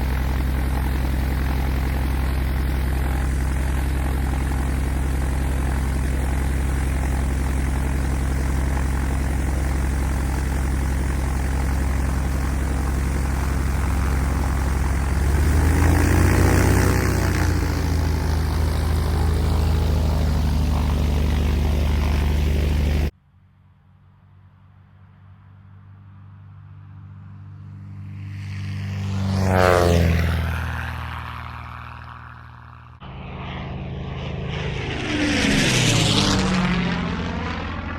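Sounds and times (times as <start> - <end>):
propeller aircraft engine running: 0.0 - 23.2, 24.3 - 37.9.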